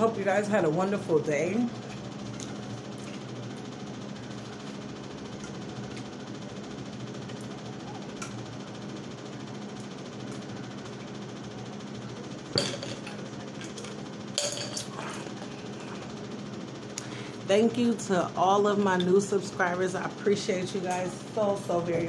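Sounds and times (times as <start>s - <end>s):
room hum: 0.0s - 22.0s.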